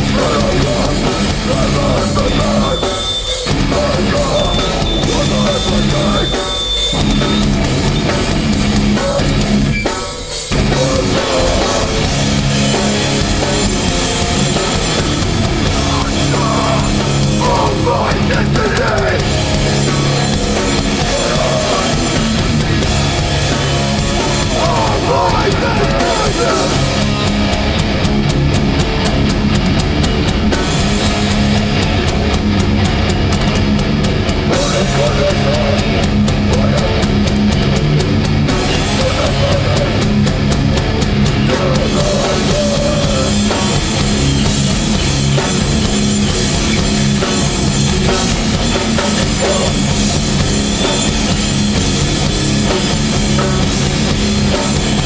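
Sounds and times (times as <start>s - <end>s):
hardcore band playing live: 0.0s - 55.0s.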